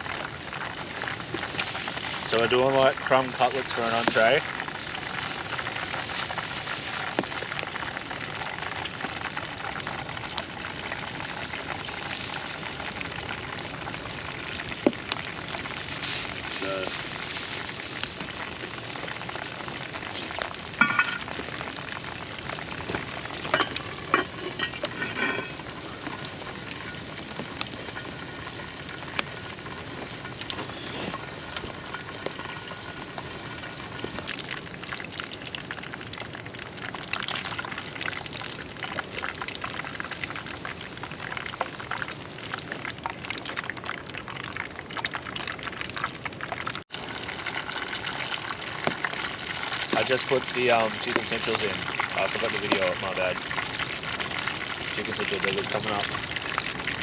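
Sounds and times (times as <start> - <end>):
food sizzling in a pan: 0.0 - 57.0
sharp crackles and clicks: 0.0 - 57.0.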